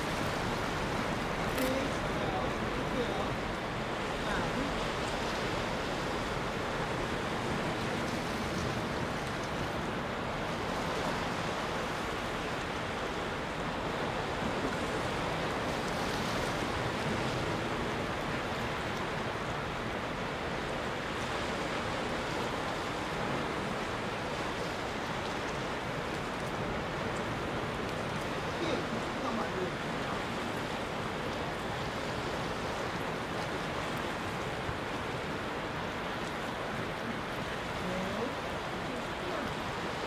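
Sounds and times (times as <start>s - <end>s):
sea surf on rocky shore: 0.0s - 40.0s.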